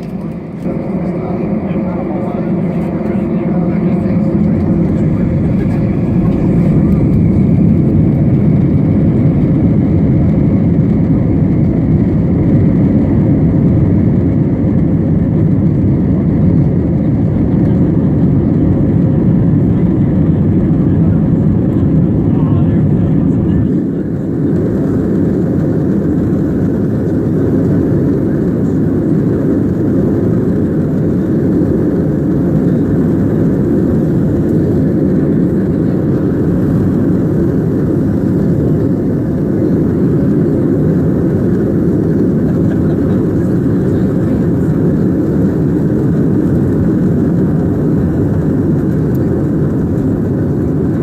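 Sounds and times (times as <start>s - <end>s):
jet engines low rumble: 0.0s - 51.0s.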